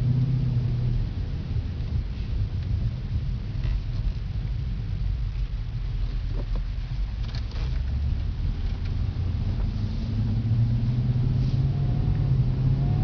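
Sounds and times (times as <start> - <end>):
low road rumble: 0.0 - 13.0.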